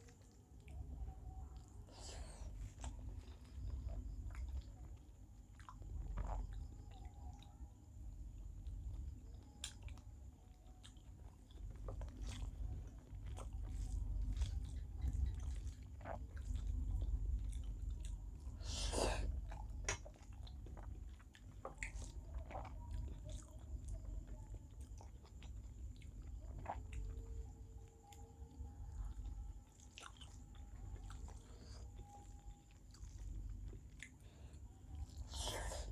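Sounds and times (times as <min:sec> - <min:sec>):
person chewing food: 0:00.0 - 0:07.6, 0:08.4 - 0:35.9.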